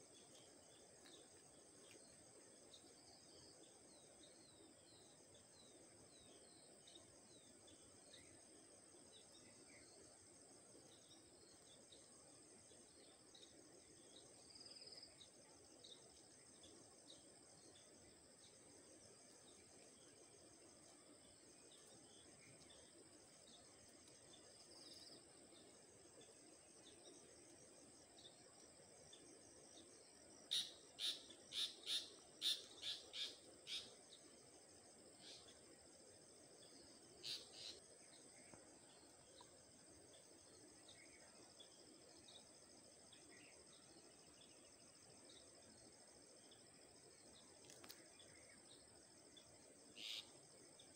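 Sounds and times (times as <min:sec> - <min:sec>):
faint insect chirps: 0:00.0 - 0:50.9
insects droning: 0:00.0 - 0:50.9.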